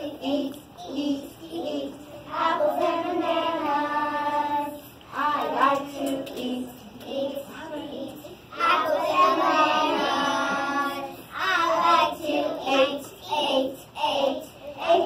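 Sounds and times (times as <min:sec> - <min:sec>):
young children singing: 0:00.0 - 0:15.0.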